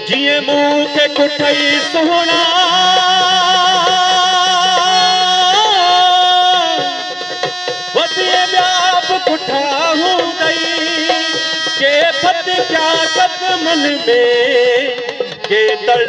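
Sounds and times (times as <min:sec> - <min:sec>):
man singing folk song: 0:00.0 - 0:07.1, 0:07.9 - 0:16.0
drum strokes: 0:00.0 - 0:16.0
harmonium: 0:00.0 - 0:16.0.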